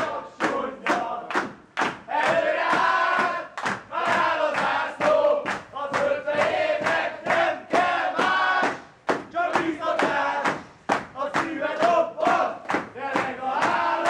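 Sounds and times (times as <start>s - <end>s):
men singing a chanted march: 0.0s - 1.5s, 2.1s - 14.0s
hands clapping in time: 0.0s - 14.0s.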